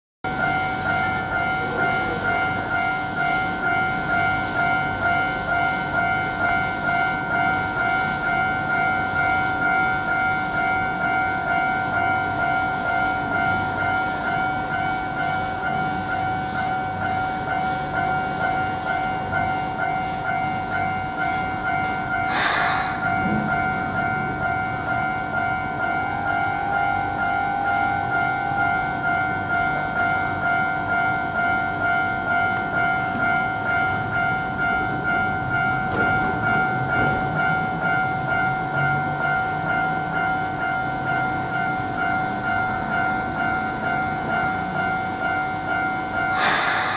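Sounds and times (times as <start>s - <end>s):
electric train high-pitched whine: 0.3s - 46.9s.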